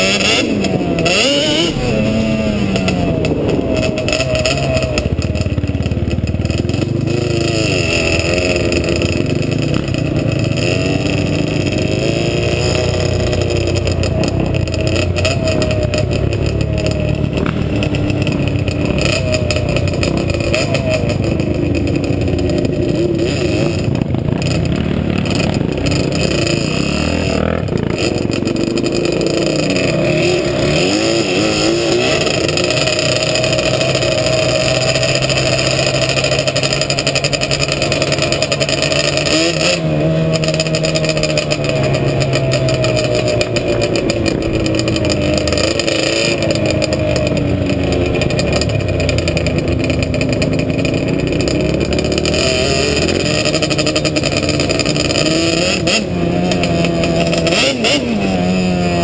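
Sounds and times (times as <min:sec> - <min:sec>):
quad engine revving: 0:00.0 - 0:59.0.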